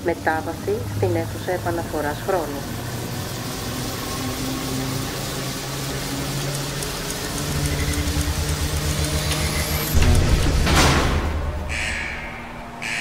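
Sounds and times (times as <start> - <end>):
low machine hum: 0.0 - 12.8
low throbbing pulse: 0.0 - 13.0.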